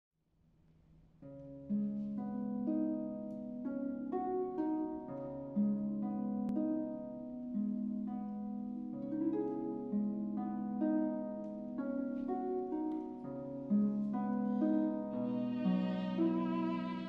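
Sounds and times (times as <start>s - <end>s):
harp playing arpeggiated melody: 1.2s - 17.0s.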